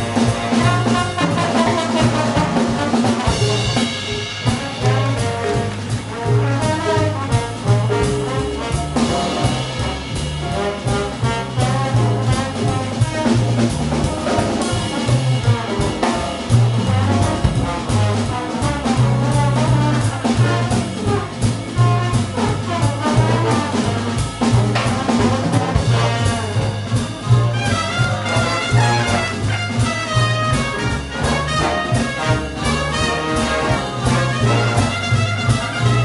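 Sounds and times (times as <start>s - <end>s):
big band jazz: 0.0s - 36.0s.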